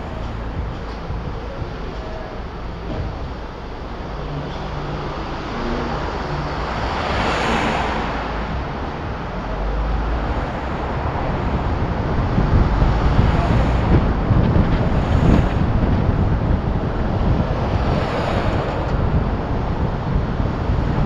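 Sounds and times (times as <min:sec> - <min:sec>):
road and traffic noise: 0:00.0 - 0:21.0
wind buffeting microphone: 0:00.0 - 0:21.0.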